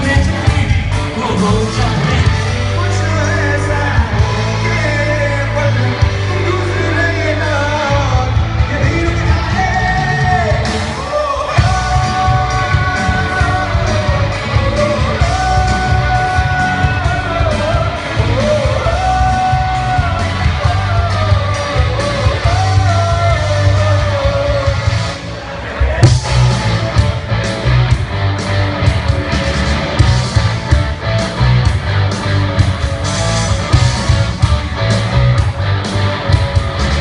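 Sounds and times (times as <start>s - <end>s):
singing over heavy bass music: 0.0s - 37.0s.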